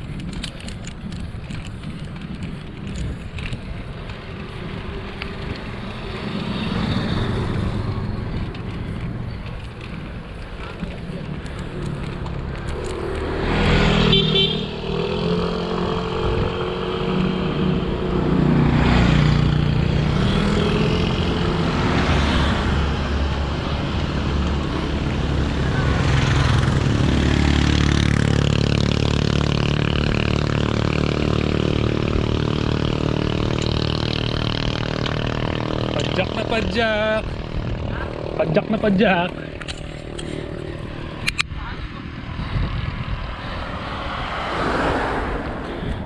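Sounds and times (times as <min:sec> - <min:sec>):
vehicle engines running: 0:00.0 - 0:46.0.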